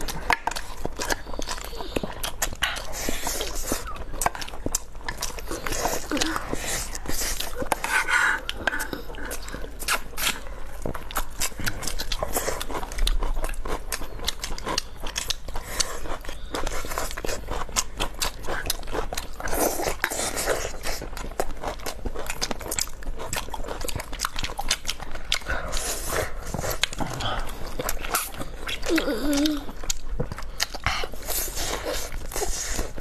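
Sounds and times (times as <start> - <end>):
crunching and chewing food: 0.0 - 33.0.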